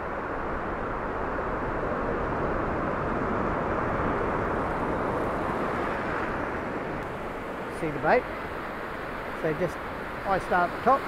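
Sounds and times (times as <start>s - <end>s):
ocean surf breaking: 0.1s - 11.0s.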